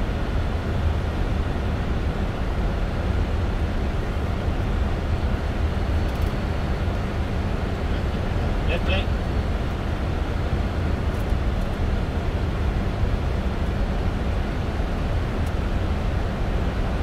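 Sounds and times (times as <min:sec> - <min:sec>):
airflow and engine rumble: 0:00.0 - 0:17.0.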